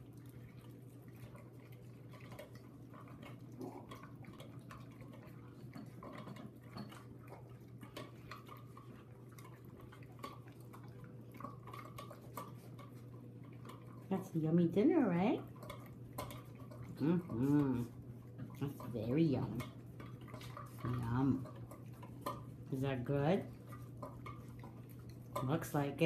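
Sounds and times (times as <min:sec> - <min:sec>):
dogs chewing: 0:00.0 - 0:26.0.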